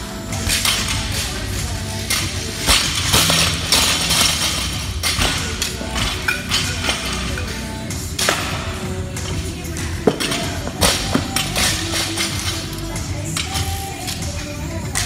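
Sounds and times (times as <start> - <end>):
gym music: 0.0 - 15.0.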